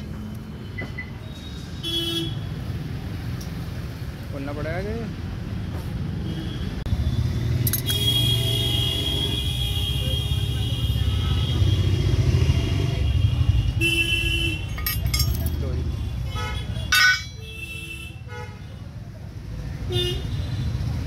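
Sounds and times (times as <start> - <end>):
low rumble of road traffic: 0.0 - 21.0.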